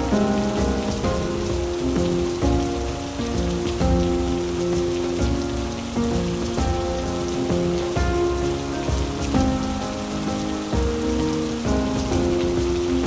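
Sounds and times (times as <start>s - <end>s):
heavy rain: 0.0s - 13.0s
slow music with held notes: 0.0s - 13.0s.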